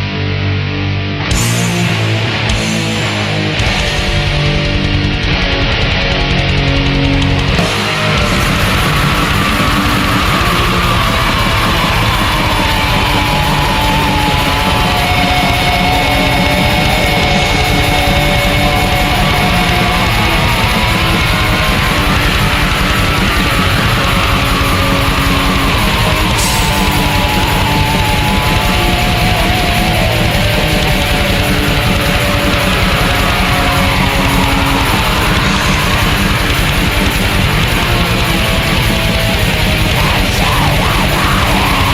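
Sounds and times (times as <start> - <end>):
distorted electric guitars: 0.0 - 41.9
melodic guitar line: 0.0 - 41.9
rapid drumming: 1.3 - 41.9.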